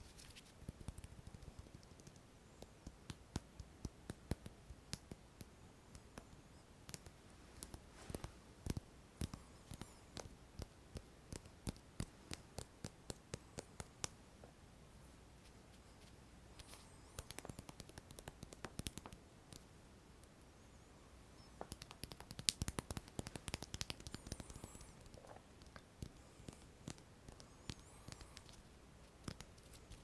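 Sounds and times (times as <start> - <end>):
fingers tapping and clicking: 0.7 - 14.2, 16.6 - 19.7, 21.6 - 28.6, 29.2 - 30.0.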